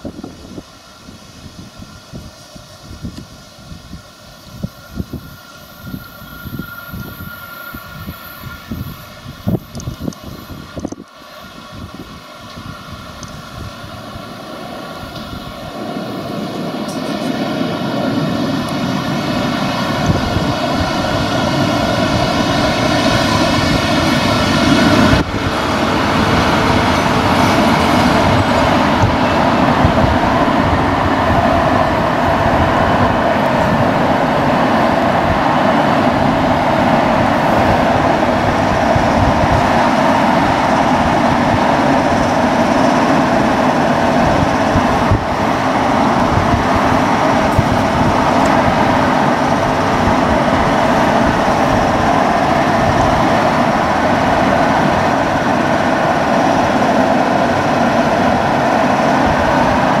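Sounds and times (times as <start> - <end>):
locomotive cooling blowers running: 0.0 - 60.0.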